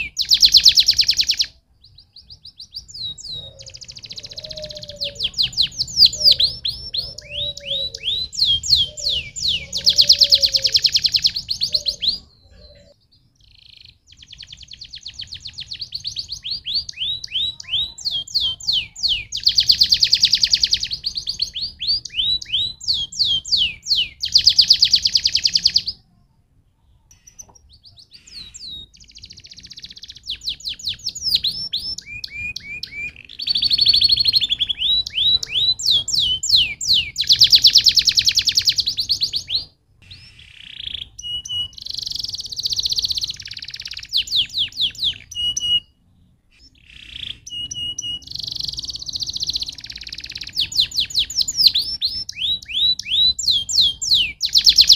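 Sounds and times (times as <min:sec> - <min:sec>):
canary singing trills: 0:00.0 - 0:26.1, 0:26.8 - 0:54.9.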